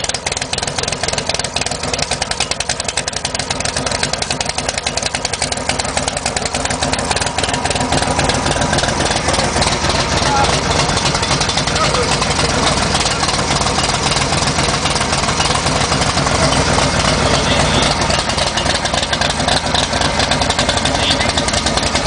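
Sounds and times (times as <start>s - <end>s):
car engine rough idle: 0.0s - 22.0s.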